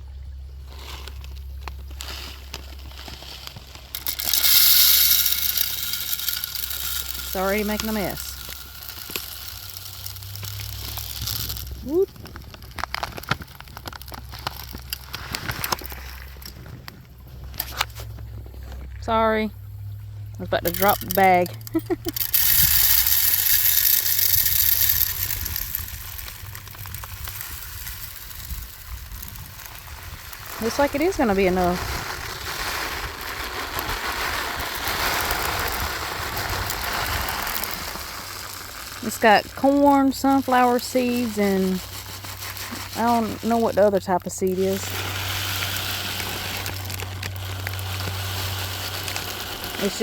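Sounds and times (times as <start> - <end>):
bag crinkling: 0.7 - 18.9, 20.5 - 50.0
seed streaming into feeder: 1.0 - 16.6, 20.6 - 50.0
seed ticks: 3.8 - 16.6, 20.4 - 50.0.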